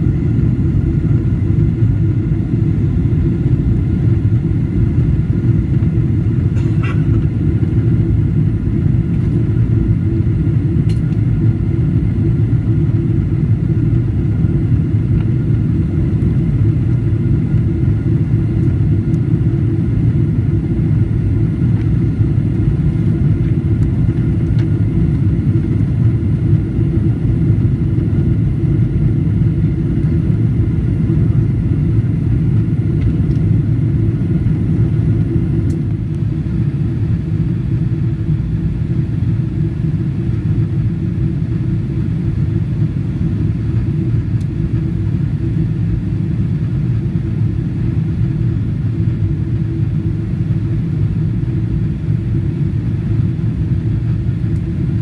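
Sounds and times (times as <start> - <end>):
airplane cabin engine noise: 0.0 - 55.0
faint steady whines: 0.0 - 55.0.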